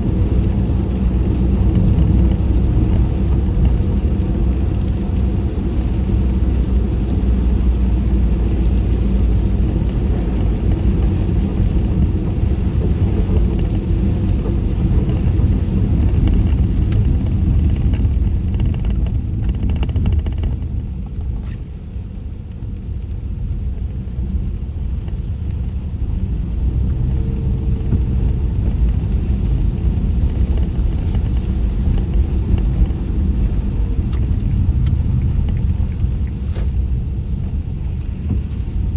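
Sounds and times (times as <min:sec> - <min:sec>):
tyres rumbling on wet road: 0:00.0 - 0:38.9.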